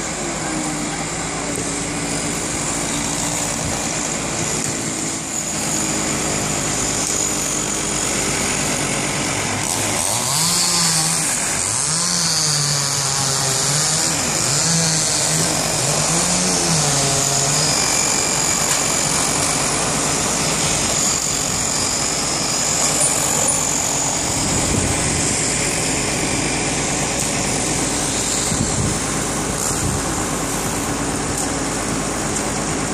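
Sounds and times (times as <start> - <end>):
fire truck engine running: 0.0 - 32.9.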